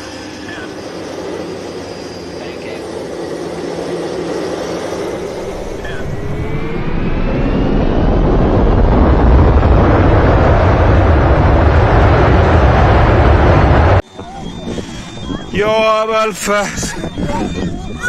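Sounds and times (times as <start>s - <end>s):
airliner engines and rushing air: 0.0s - 18.0s
faint rising whine: 0.0s - 18.0s.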